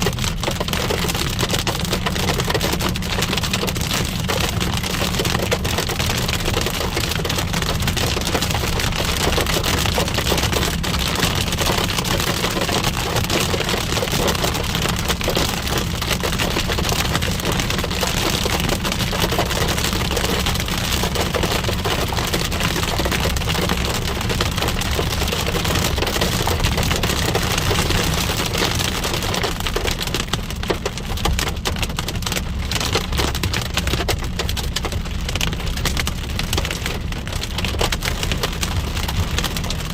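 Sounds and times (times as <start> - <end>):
hail and rain pelting a car: 0.0 - 39.9.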